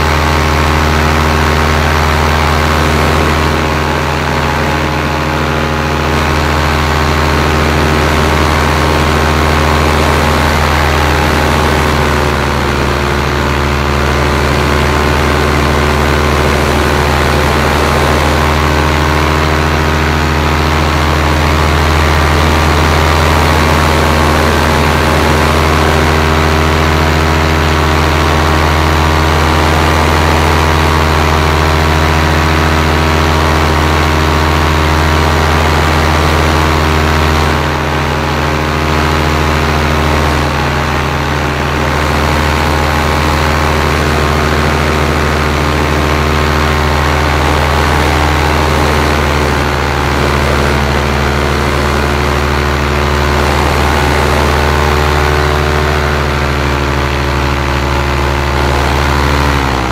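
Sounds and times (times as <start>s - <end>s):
paramotor engine drone: 0.0s - 59.9s.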